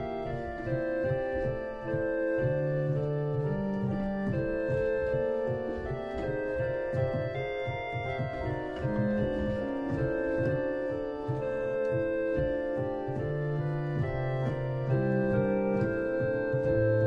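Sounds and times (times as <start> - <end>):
organ playing chords: 0.0 - 17.0.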